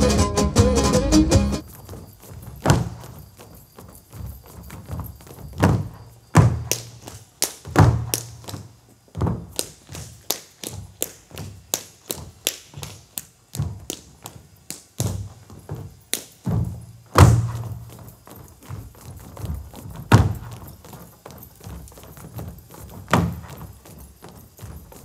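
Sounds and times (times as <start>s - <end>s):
boots stamping on stage: 1.8s - 25.0s.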